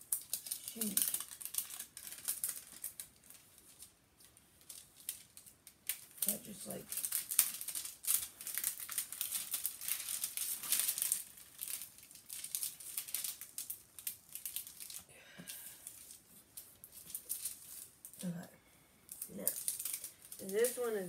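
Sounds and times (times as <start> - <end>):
plastic film crinkling: 0.0 - 18.4, 19.1 - 21.0.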